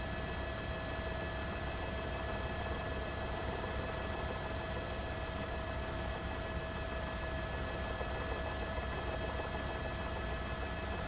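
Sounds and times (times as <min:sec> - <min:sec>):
helicopter rotor and engine rumble: 0:00.0 - 0:11.0.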